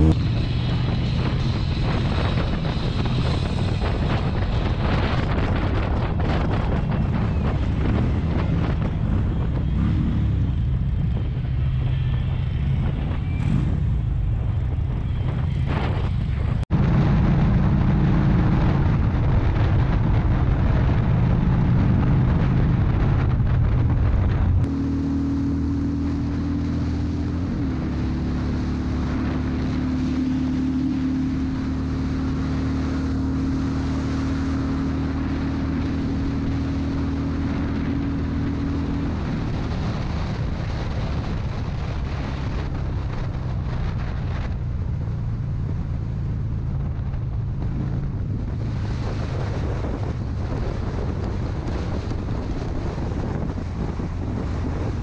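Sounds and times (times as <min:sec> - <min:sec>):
motorcycle engine at speed: 0:00.0 - 0:55.0
wind on microphone: 0:00.0 - 0:55.0.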